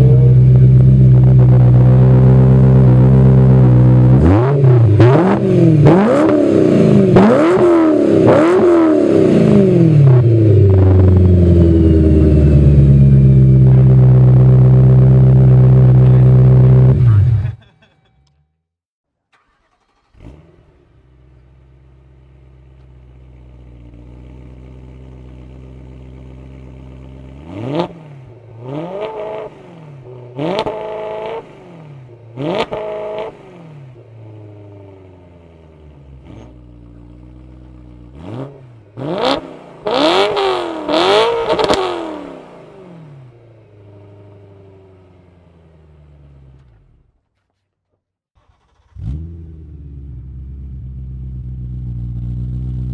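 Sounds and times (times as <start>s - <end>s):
car engine idling and revving: 0.0s - 18.6s, 19.4s - 47.3s, 48.4s - 52.9s.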